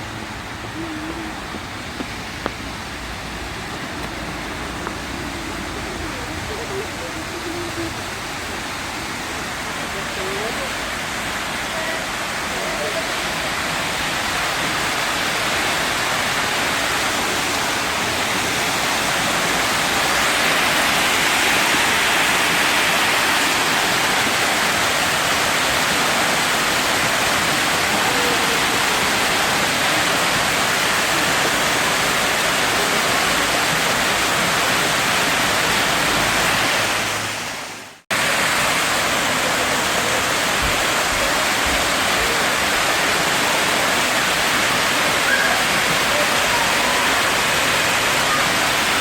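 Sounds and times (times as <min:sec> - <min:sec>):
water rushing: 0:00.0 - 0:49.0.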